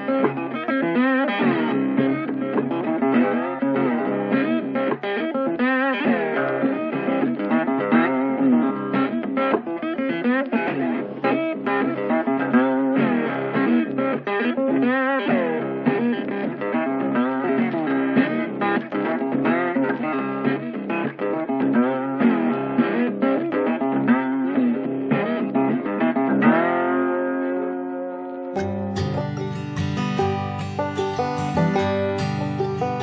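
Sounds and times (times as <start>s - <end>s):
bluesy electric guitar lead: 0.0s - 33.0s.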